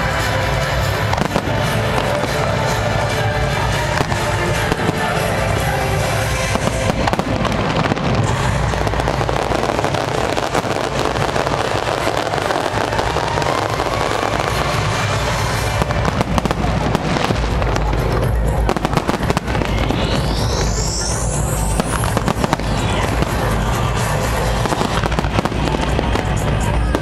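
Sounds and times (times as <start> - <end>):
fireworks bursting and crackling: 0.0 - 27.0
music playing: 0.0 - 27.0.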